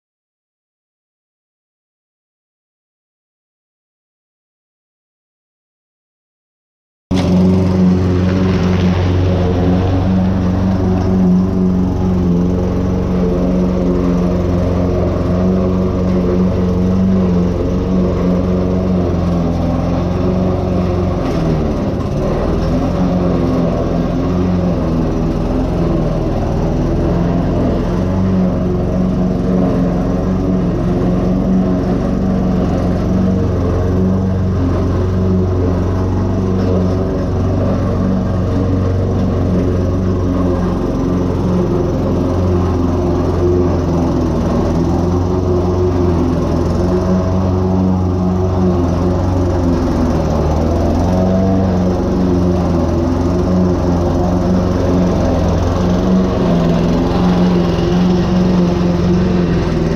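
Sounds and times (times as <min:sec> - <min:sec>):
lawn mower cutting grass: 0:07.1 - 0:59.9.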